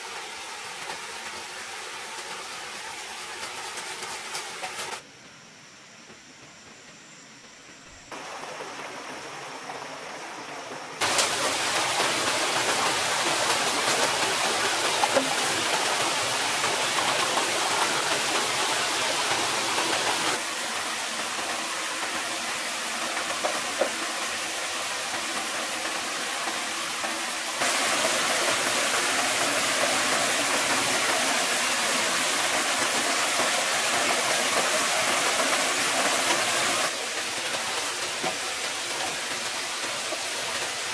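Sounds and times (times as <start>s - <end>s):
stream and waterfall rushing: 0.0s - 5.0s, 8.1s - 40.9s.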